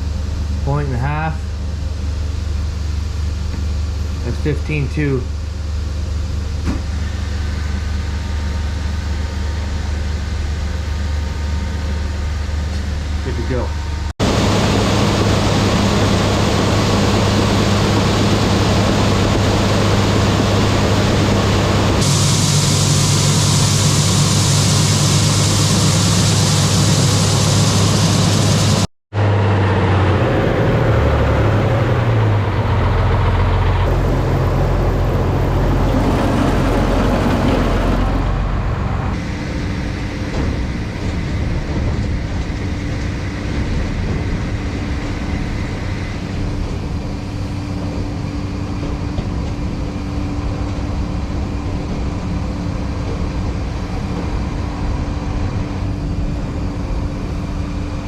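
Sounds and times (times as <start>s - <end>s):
machinery low hum: 0.0s - 58.0s.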